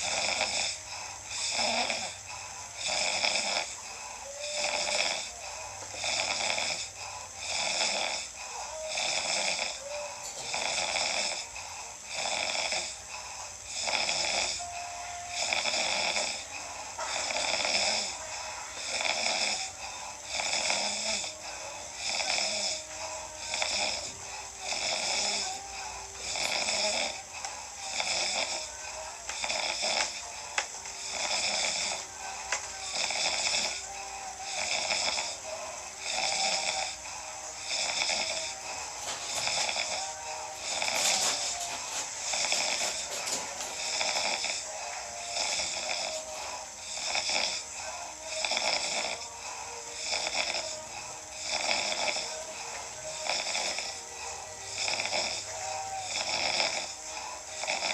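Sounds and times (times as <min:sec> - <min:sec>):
loud rhythmic snoring: 0:00.0 - 0:57.9.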